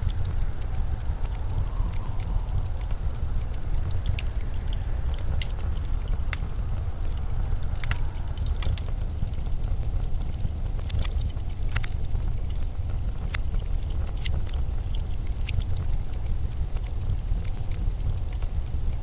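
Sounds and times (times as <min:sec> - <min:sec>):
blizzard wind rumbling: 0:00.0 - 0:19.0
sharp crackles: 0:00.0 - 0:19.0.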